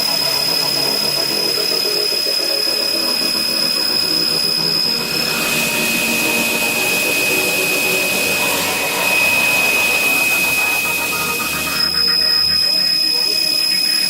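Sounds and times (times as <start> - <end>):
high spindle whine: 0.0 - 14.0
milling machine running: 0.1 - 14.0.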